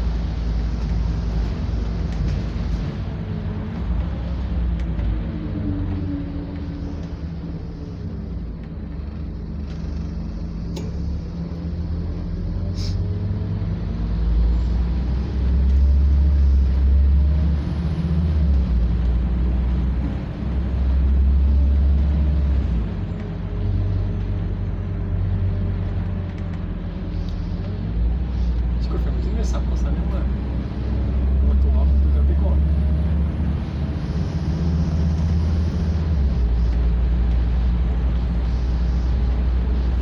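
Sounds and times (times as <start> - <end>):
bus engine droning: 0.0 - 40.0.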